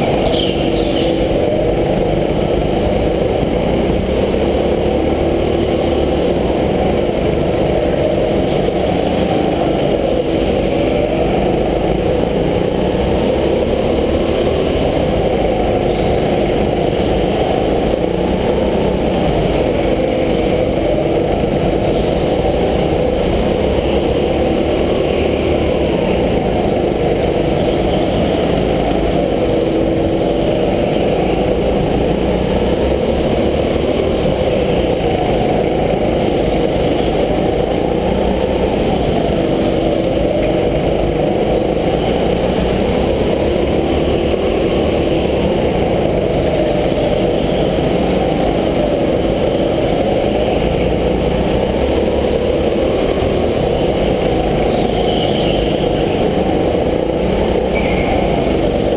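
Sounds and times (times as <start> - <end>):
go-kart engine revving: 0.0 - 58.9.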